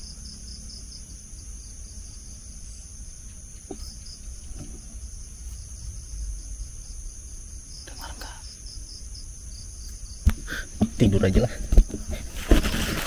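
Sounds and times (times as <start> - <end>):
crickets trilling: 0.0 - 13.0
pulsing insect chirp: 0.0 - 13.0.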